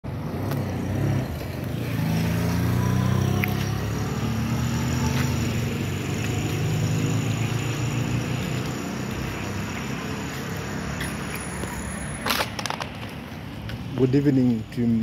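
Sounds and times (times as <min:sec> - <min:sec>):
background traffic noise: 0:00.0 - 0:15.0
motorcycle passing: 0:00.1 - 0:13.6.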